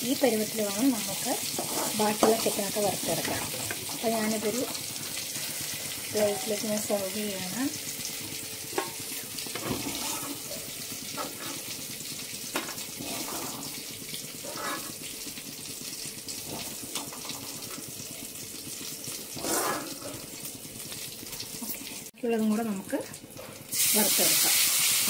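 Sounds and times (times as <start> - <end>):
hot oil sizzling: 0.0 - 25.0.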